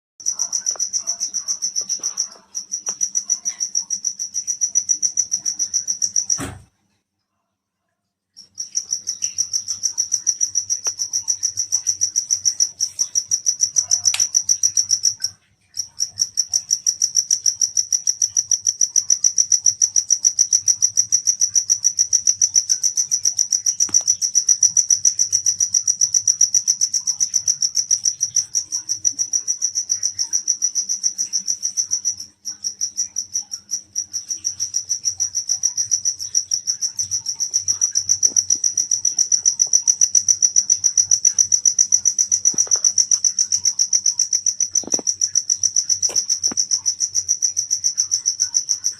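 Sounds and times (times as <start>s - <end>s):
cricket chirping: 0.2s - 6.7s, 8.3s - 48.9s.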